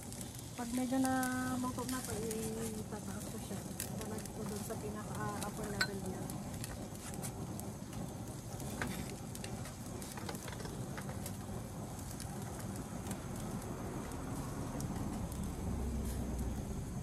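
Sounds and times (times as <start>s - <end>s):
fish sizzling on grill: 0.0s - 17.0s.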